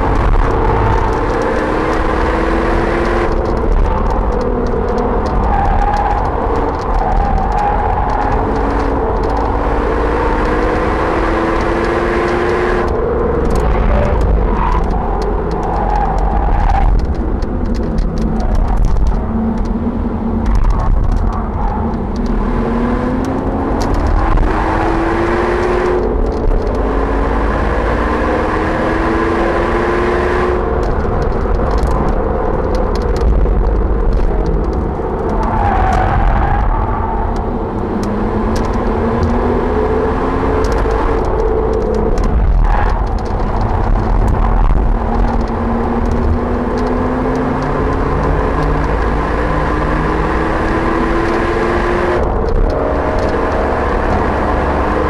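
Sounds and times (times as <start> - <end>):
car engine accelerating: 0.0 - 55.0
sharp clicks and rattles: 0.0 - 55.0
wind and road rumble: 0.0 - 55.0.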